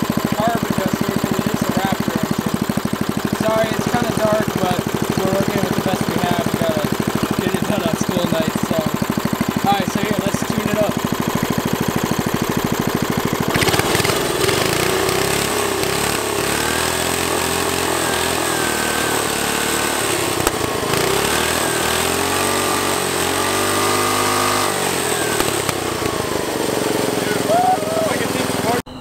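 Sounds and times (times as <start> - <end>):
hissing rasp of blown gasket: 0.0 - 28.8
small engine running: 0.0 - 29.0.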